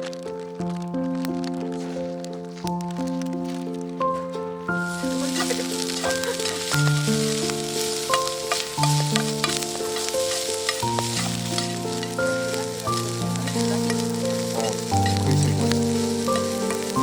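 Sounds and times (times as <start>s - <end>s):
food sizzling and popping: 0.0s - 17.0s
slow held chords music: 0.4s - 17.0s.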